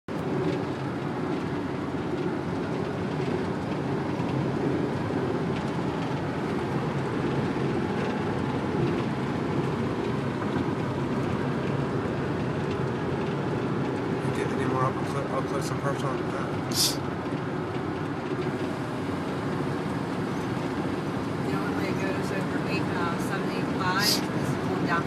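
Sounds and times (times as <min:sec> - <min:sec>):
vehicle road noise from cabin: 0:00.1 - 0:25.0.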